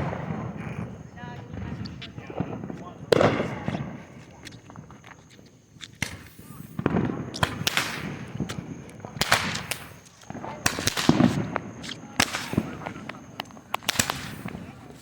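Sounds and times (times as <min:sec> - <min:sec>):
heavy firework booms: 0:00.0 - 0:04.9, 0:06.0 - 0:15.0
fireworks cracking and banging: 0:00.0 - 0:15.0.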